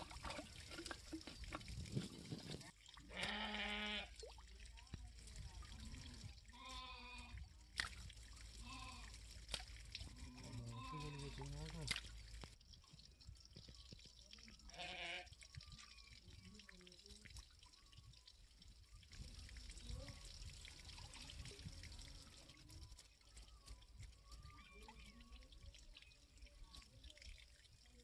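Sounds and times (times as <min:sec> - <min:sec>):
water trickling and dripping: 0:00.0 - 0:28.0.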